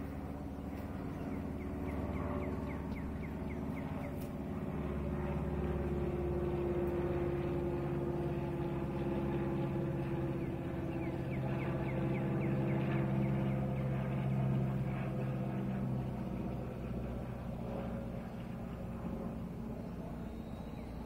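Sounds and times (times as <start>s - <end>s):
propeller plane droning overhead: 0.0s - 21.0s.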